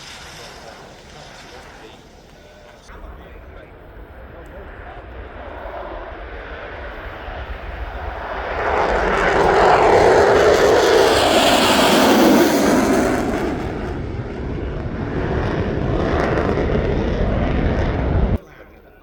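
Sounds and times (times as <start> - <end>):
jet aircraft passing by: 0.0 - 18.4.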